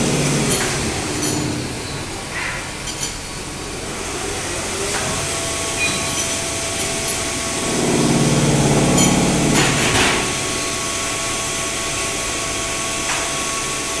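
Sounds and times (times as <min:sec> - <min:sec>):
loud machine buzz: 0:00.0 - 0:02.4, 0:03.3 - 0:14.0
machinery humming: 0:00.0 - 0:14.0.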